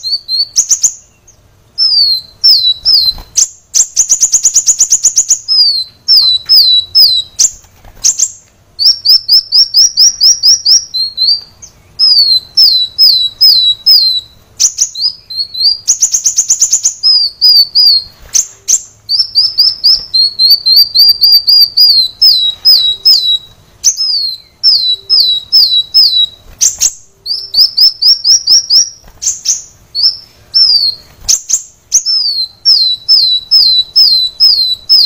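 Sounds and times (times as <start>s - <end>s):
bird whistling song: 0.0s - 35.0s
bird rattling trill: 1.8s - 35.0s.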